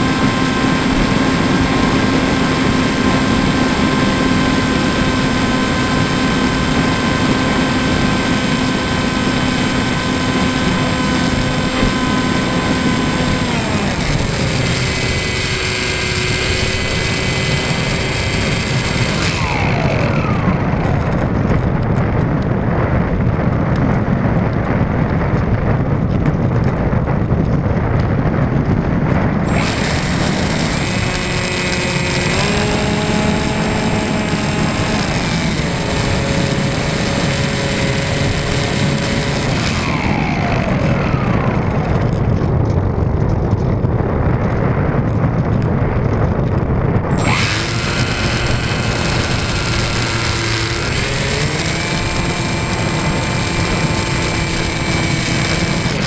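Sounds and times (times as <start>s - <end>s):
model plane motor whine: 0.0s - 25.7s, 29.1s - 42.9s, 43.7s - 56.0s
wind rushing over microphone: 0.0s - 56.0s.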